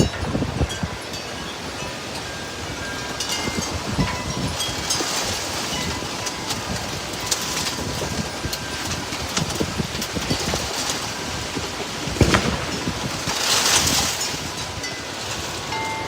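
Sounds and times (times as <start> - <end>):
gusting wind: 0.0 - 16.0
heavy rain: 0.0 - 16.0.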